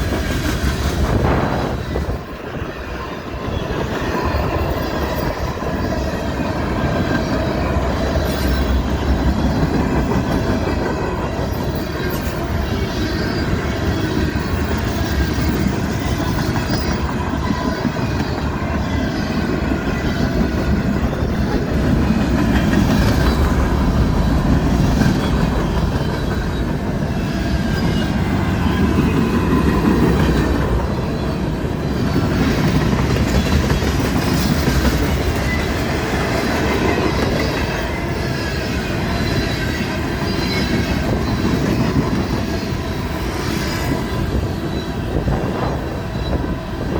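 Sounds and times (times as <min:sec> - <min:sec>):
railroad cars rumbling: 0:00.0 - 0:46.9
high wheel squeal: 0:01.0 - 0:46.9.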